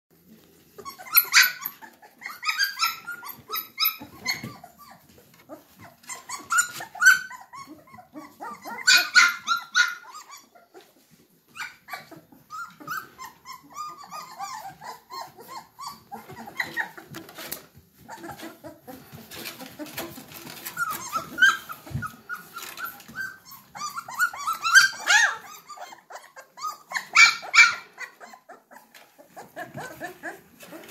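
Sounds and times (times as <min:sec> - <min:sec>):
puppies whining and yelping: 0:00.2 - 0:30.9.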